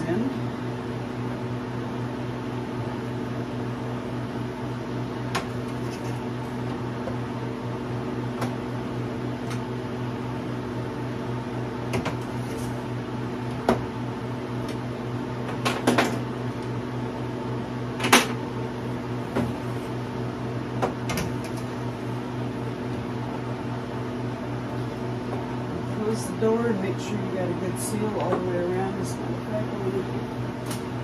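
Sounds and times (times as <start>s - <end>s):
refrigeration unit humming: 0.0s - 31.0s.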